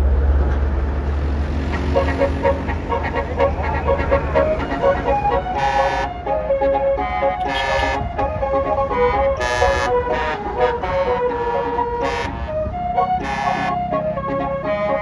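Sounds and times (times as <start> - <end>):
low engine rumble: 0.0 - 15.0
bus horn playing a tune: 1.0 - 15.0.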